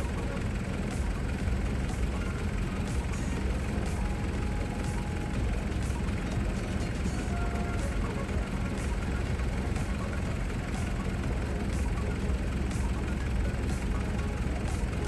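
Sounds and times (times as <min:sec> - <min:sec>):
diesel engine idling: 0:00.0 - 0:15.0
faint ticking: 0:00.0 - 0:15.0.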